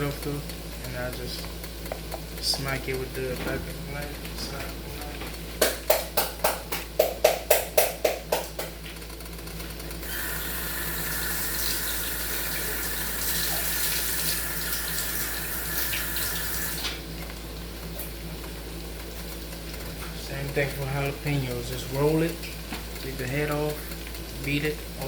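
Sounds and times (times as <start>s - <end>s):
kitchen tap running: 0.0s - 25.0s.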